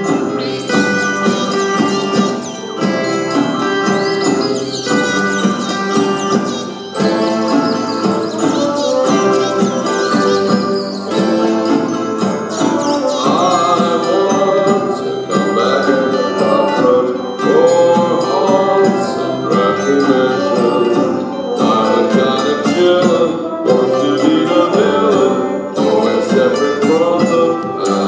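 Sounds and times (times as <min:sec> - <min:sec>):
man singing into microphone: 0:00.0 - 0:11.7, 0:12.3 - 0:28.0
live band music: 0:00.0 - 0:28.0.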